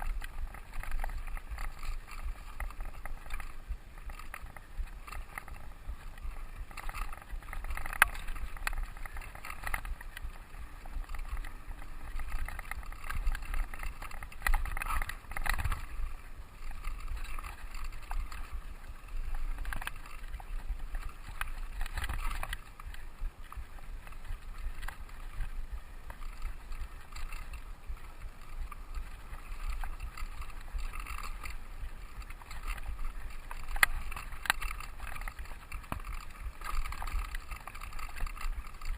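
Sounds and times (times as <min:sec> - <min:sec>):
bike knocking and rattling: 0:00.0 - 0:38.9.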